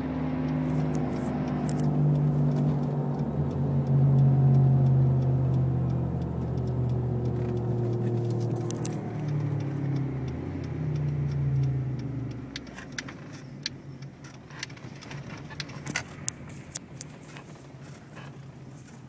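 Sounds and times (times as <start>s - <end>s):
car engine drone: 0.0s - 19.0s
sharp clicks and rattles: 0.4s - 19.0s.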